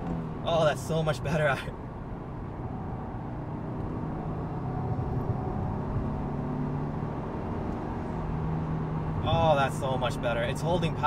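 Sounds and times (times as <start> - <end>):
car engine pulling under throttle: 0.0 - 11.0
road noise: 0.0 - 11.0.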